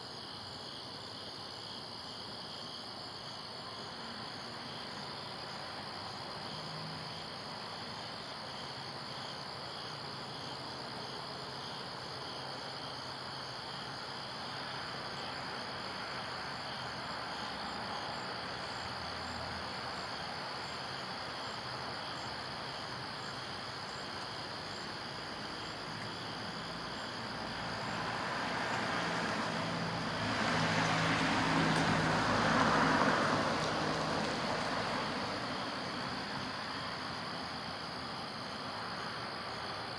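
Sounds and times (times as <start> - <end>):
crickets chirping: 0.0 - 39.9
passing vehicle: 3.6 - 39.9.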